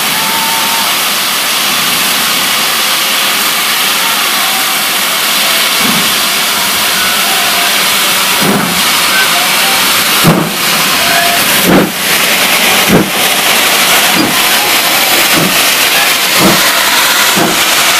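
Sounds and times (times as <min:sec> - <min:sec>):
steam locomotive hissing: 0:00.0 - 0:17.9.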